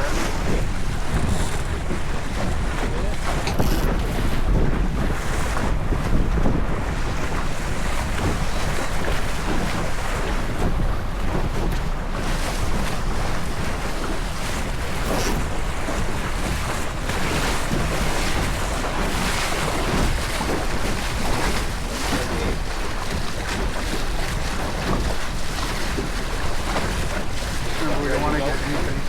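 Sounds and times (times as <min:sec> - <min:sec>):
water slapping boat hull: 0:00.0 - 0:29.0
wind buffeting microphone: 0:00.0 - 0:29.0.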